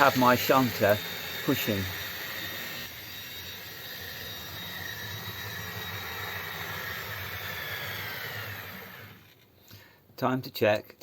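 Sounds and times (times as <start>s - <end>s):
model train motor whine: 0.0s - 9.4s.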